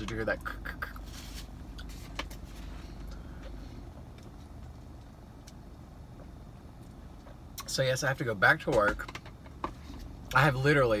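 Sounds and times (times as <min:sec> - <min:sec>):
low hum in car: 0:00.0 - 0:11.0.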